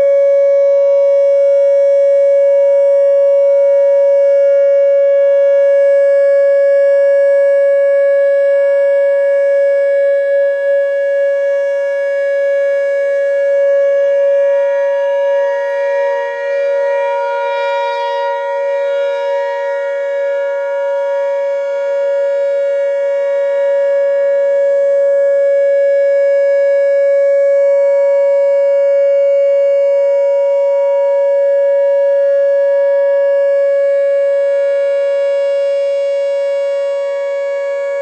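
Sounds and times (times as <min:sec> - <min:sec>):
fainter second siren tone: 0:00.0 - 0:38.0
warning siren steady tone: 0:00.0 - 0:38.0.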